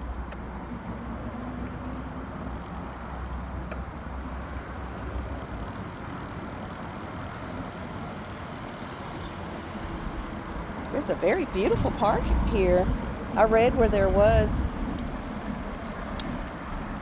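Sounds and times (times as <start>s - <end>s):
e-bike rolling noise: 0.0s - 17.0s.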